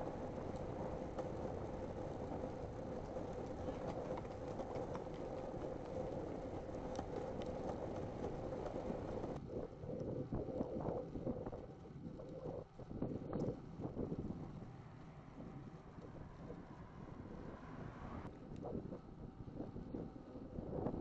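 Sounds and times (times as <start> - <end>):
bicycle tyres rumbling on tarmac: 0.0 - 21.0
wind buffeting microphone: 0.0 - 21.0.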